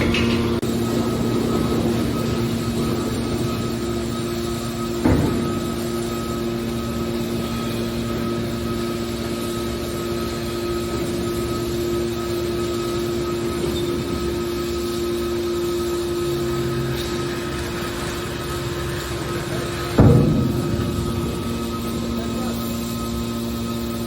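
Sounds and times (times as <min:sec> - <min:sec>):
hydraulic power unit humming: 0:00.0 - 0:24.0.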